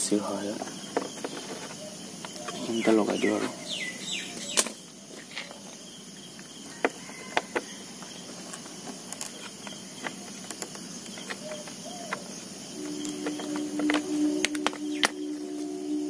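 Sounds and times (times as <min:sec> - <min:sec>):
high-pitched background hiss: 0:00.0 - 0:16.0.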